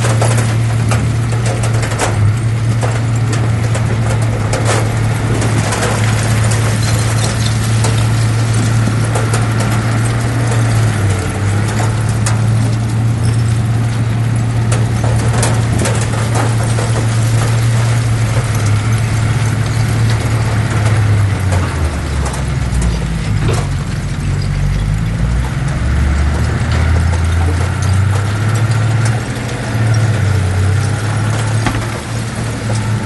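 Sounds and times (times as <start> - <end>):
heavy diesel engine running: 0.0 - 33.0
metallic clanks and knocks: 0.0 - 33.0.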